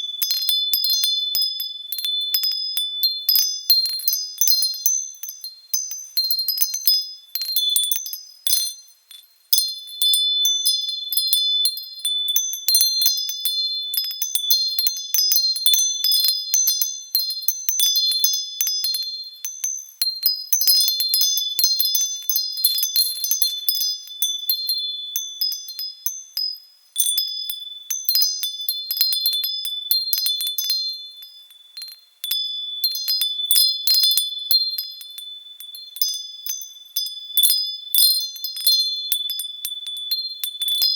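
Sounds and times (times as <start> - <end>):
wind chimes ringing: 0.0 - 40.9.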